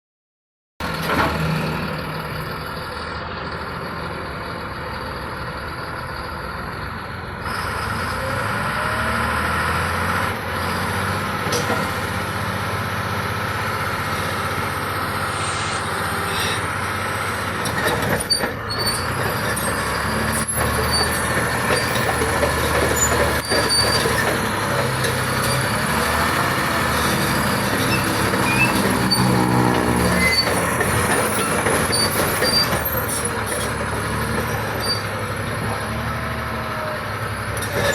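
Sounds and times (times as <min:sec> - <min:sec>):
bulldozer diesel engine running: 0:00.8 - 0:37.9.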